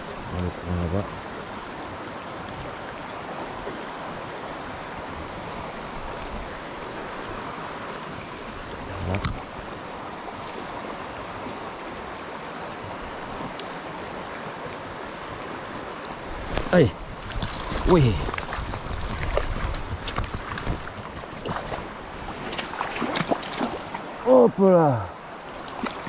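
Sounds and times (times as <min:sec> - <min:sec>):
river rushing over riffle: 0:00.0 - 0:26.0.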